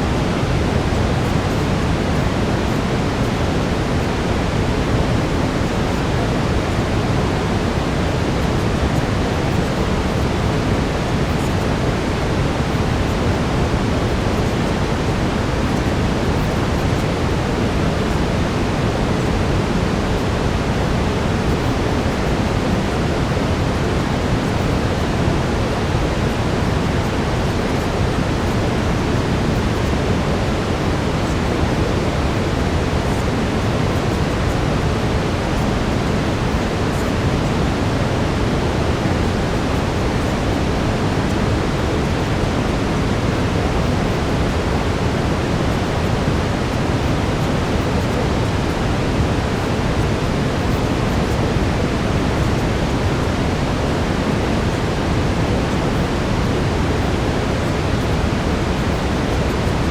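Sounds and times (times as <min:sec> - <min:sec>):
brown noise hiss: 0:00.0 - 0:59.9
faint steady tone: 0:00.0 - 0:59.9.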